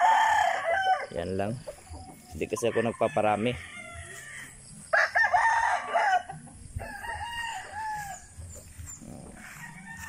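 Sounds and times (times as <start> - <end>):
roosters crowing: 0.0 - 10.0.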